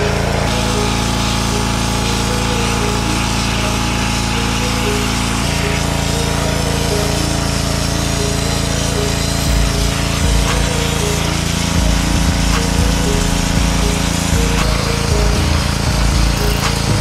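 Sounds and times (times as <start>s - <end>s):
pressure washer engine running: 0.0s - 17.0s.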